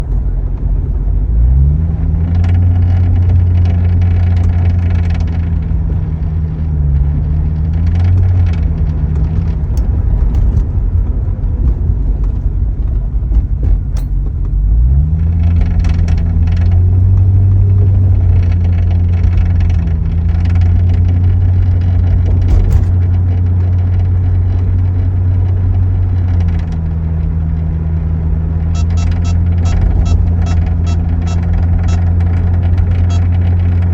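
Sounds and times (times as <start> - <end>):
car engine revving: 0.0 - 33.9
engine rattle: 0.0 - 33.9.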